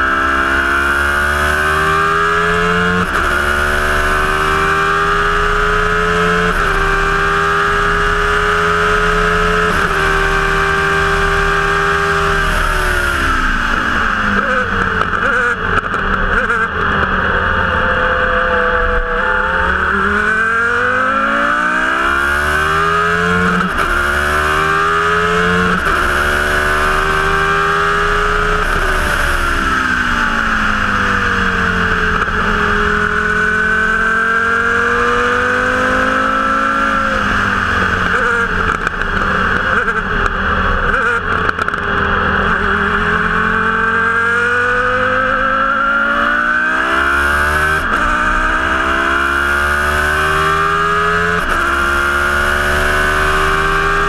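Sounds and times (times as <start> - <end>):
race car engine revving: 0.0 - 54.0
wind and road noise: 0.0 - 54.0.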